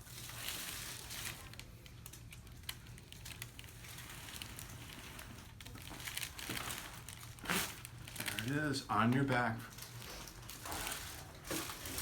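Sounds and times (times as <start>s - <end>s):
table crinkling and rustling: 0.0s - 8.6s, 9.7s - 12.0s.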